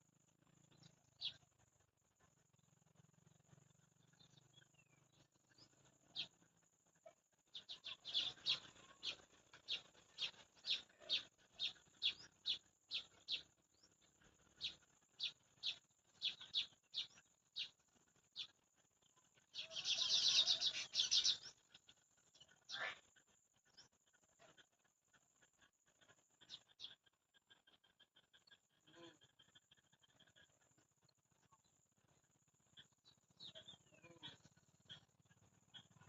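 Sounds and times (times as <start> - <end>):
sparrow chirping: 0.4 - 1.6, 2.3 - 36.0.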